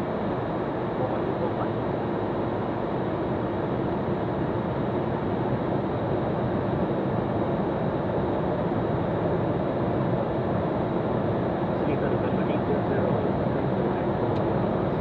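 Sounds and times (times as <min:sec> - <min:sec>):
turbofan engines: 0:00.0 - 0:15.0.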